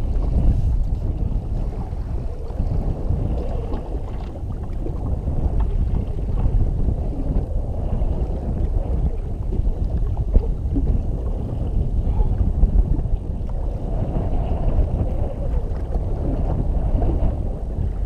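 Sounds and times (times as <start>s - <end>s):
water against hull: 0.0s - 18.0s
wind rumbling on microphone: 0.0s - 18.0s.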